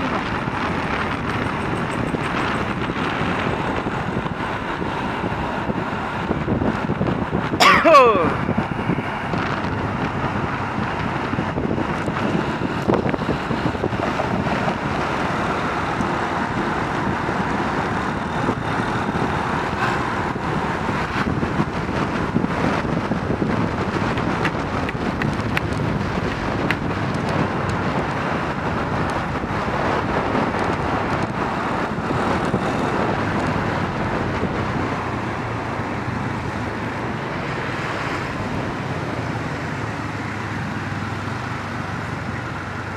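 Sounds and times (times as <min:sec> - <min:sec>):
motorcycle road noise: 0:00.0 - 0:42.9
wind rush on microphone: 0:00.0 - 0:42.9.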